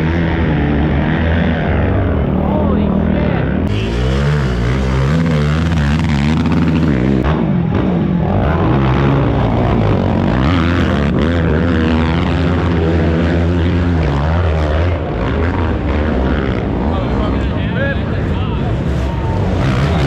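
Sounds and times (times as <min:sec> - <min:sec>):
atv engines revving: 0:00.0 - 0:20.0.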